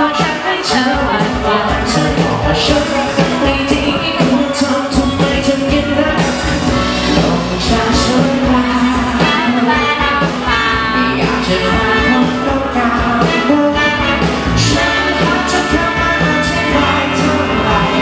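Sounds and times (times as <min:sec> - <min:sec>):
live pop band playing: 0:00.0 - 0:18.0
man singing: 0:00.0 - 0:18.0.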